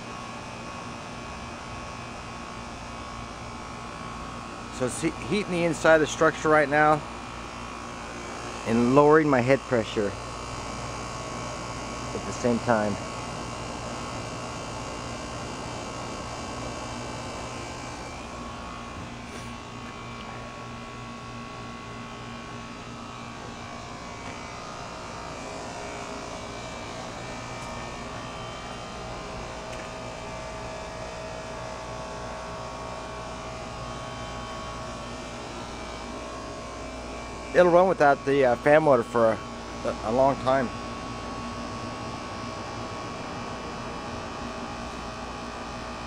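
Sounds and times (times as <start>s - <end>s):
heat pump compressor humming: 0.0s - 46.0s.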